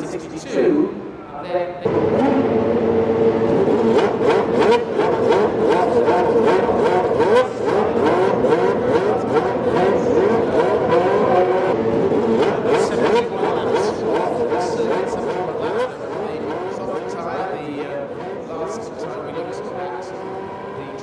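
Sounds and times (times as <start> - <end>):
racing car engines revving: 1.8 - 21.0.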